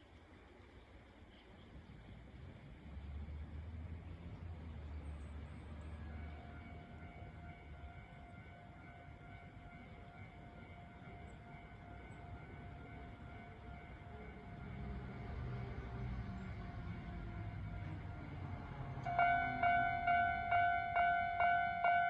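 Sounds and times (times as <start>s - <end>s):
low train rumble: 0.0s - 22.0s.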